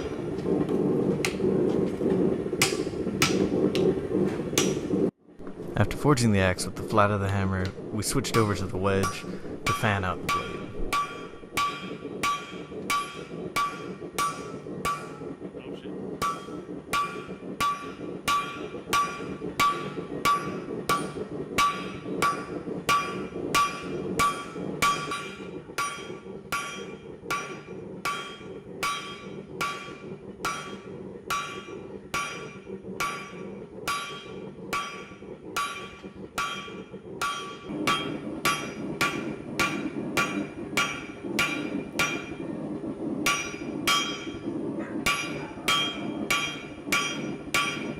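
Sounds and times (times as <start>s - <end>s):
steady low rush: 0.0s - 47.9s
hammer striking steel on anvil: 2.6s - 3.9s, 4.6s - 4.8s, 8.2s - 15.3s, 16.2s - 42.5s, 43.2s - 47.9s.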